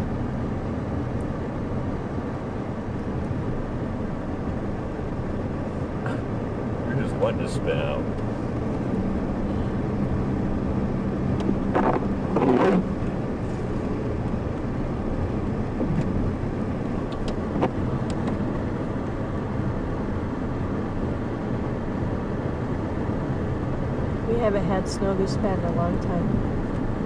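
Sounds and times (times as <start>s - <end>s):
car engine hum: 0.0s - 27.0s
road rumble: 0.0s - 27.0s.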